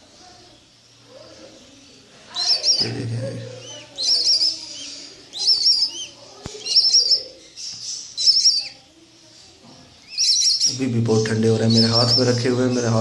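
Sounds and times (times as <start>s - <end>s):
budgerigar chicks cheeping: 0.2s - 13.0s.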